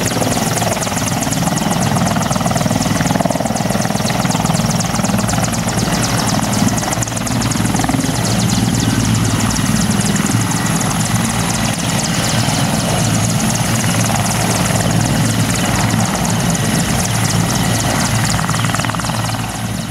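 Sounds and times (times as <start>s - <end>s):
helicopter rotor beating: 0.0s - 19.9s
high turbine engine whine: 0.0s - 19.9s.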